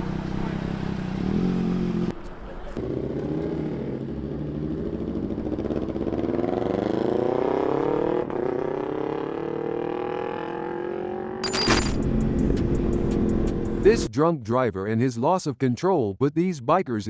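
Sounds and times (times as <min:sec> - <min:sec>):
motorcycle engine accelerating: 0:00.0 - 0:14.1.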